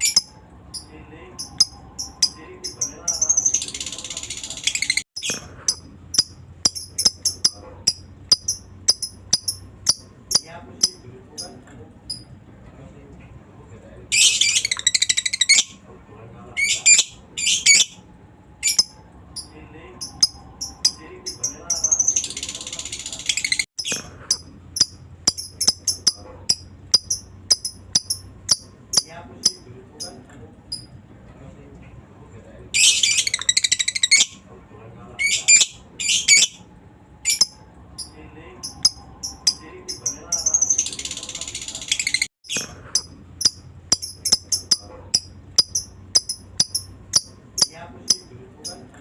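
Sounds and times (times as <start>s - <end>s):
lovebird chattering and chirping: 0.0s - 12.3s, 14.1s - 15.8s, 16.6s - 18.0s, 18.6s - 30.9s, 32.8s - 34.4s, 35.2s - 36.6s, 37.2s - 48.8s.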